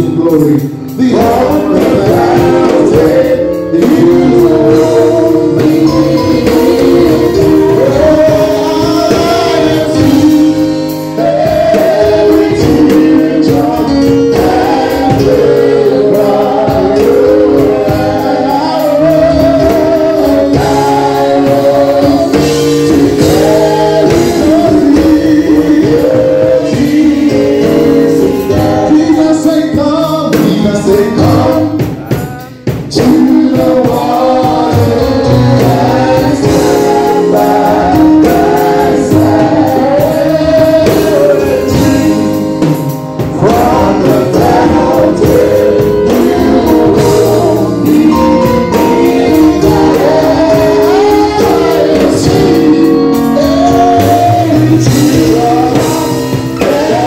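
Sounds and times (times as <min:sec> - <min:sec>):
man singing through loudspeakers: 0:00.0 - 0:57.0
women singing gospel together: 0:01.0 - 0:32.0, 0:32.7 - 0:57.0.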